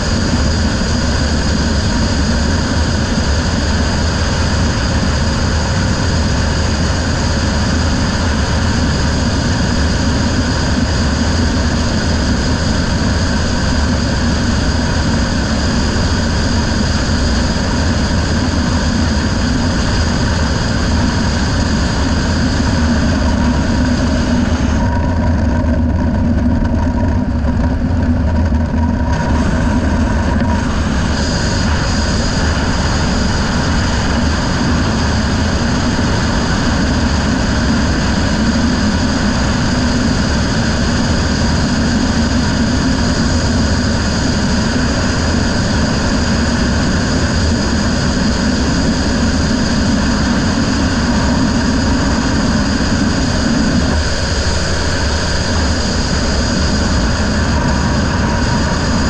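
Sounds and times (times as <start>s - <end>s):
boat engine droning: 0.0s - 59.0s
thin high whine: 0.0s - 59.0s.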